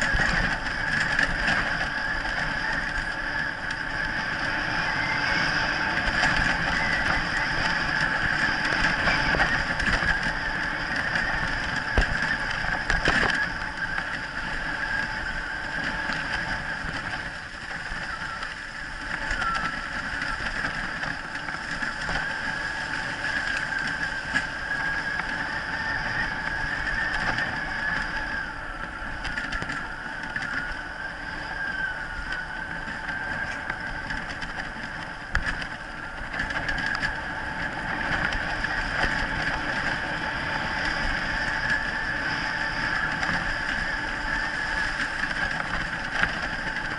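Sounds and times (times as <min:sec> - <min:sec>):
high whine: 0:00.0 - 0:46.9
wheeled rig rattling over dirt: 0:00.0 - 0:46.9.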